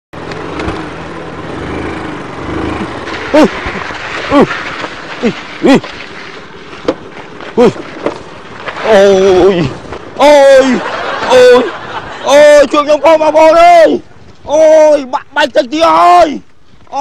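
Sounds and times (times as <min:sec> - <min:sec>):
small motorcycle engines: 0:00.2 - 0:14.5.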